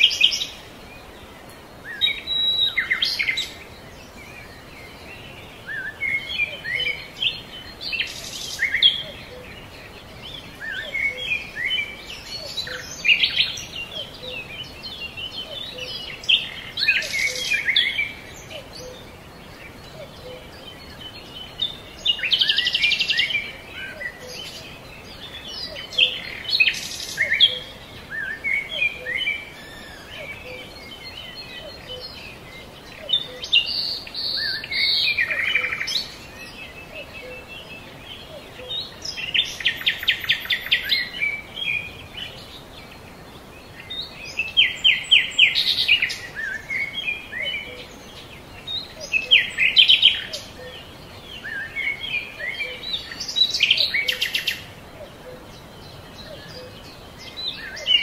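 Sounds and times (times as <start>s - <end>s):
birds chirping and singing: 0.0s - 58.0s
faint hiss: 0.0s - 58.0s.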